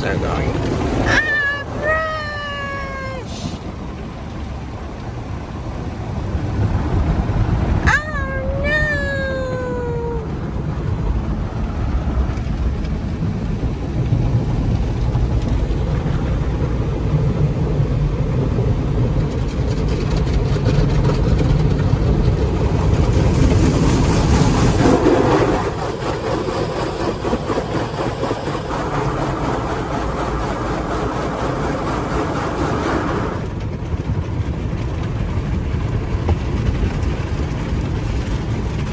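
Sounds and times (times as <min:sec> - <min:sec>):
car wash rumble with brushes: 0:00.0 - 0:38.9.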